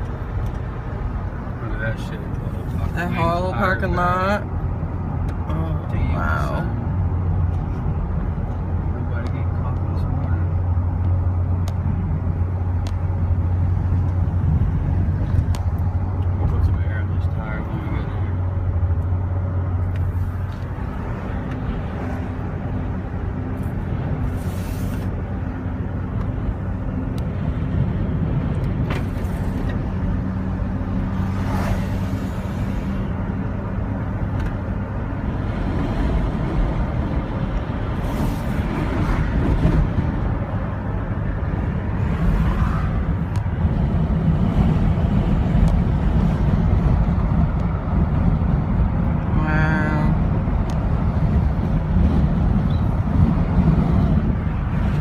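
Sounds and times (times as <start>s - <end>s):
car engine hum: 0.0s - 55.0s
low road rumble: 0.0s - 55.0s.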